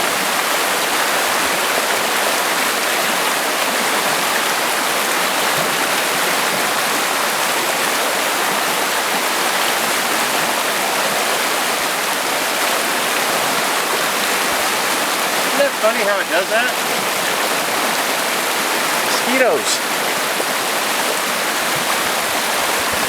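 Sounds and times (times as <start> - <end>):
fast turbulent creek water: 0.0 - 23.0.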